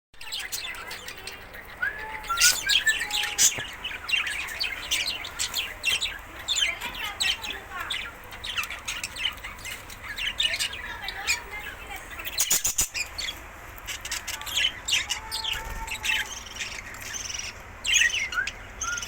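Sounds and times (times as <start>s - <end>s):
budgerigars chirping and chattering: 0.2s - 19.0s.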